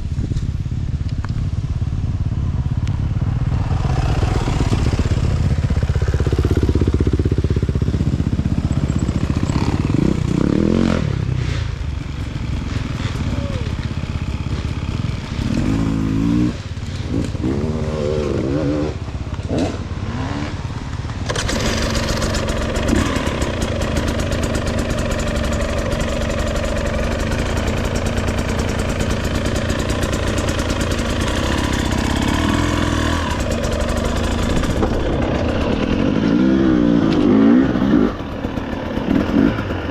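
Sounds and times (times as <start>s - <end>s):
motorcycle engine revving: 0.4s - 39.9s.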